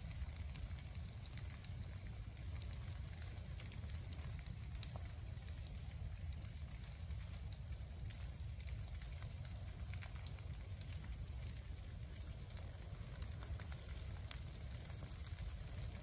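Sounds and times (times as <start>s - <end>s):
fire crackling: 0.0s - 16.0s
fire low rumble: 0.0s - 16.0s.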